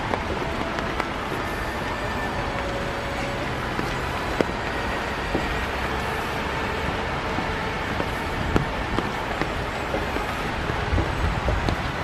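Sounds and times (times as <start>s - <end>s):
rain on leaves and boardwalk: 0.0s - 12.0s.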